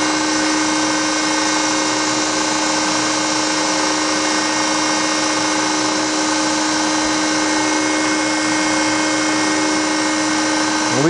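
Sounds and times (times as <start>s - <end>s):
grinding spindle whine: 0.0s - 11.0s.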